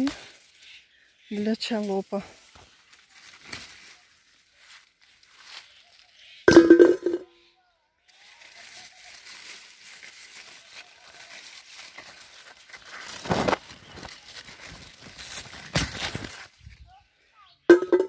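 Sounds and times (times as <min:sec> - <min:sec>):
leaves rustling and crinkling: 0:00.0 - 0:07.3, 0:08.0 - 0:18.0.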